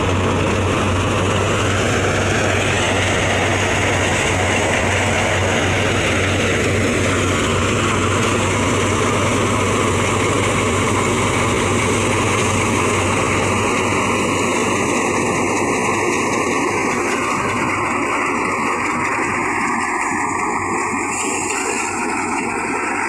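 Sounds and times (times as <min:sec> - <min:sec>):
tractor engine hum: 0:00.0 - 0:23.0.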